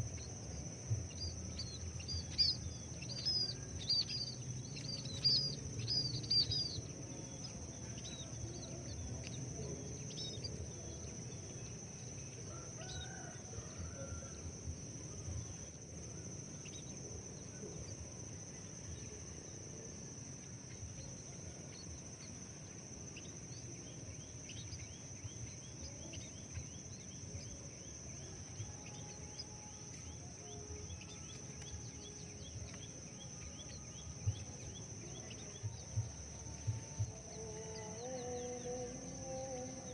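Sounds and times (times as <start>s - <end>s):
low outdoor background noise: 0.0s - 39.9s
small birds chirping: 0.0s - 39.9s
steady high-pitched whine: 0.0s - 39.9s.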